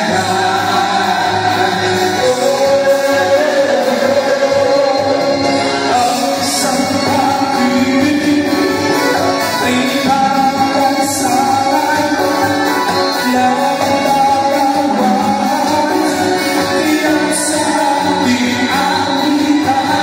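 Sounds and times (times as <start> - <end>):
loud backing music: 0.0 - 20.0
person singing into microphone: 0.0 - 20.0.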